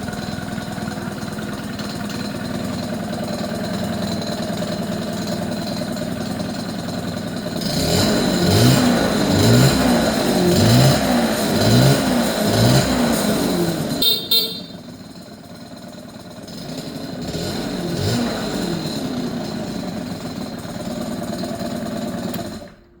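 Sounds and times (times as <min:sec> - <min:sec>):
engine crackle: 0:00.0 - 0:22.9
scooter engine revving: 0:00.0 - 0:23.0.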